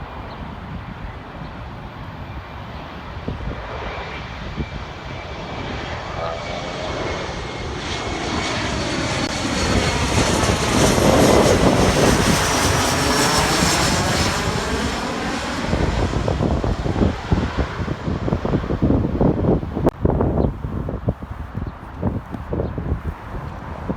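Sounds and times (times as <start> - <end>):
airliner flying over: 0.0 - 23.9
wind gusts on microphone: 0.0 - 23.9.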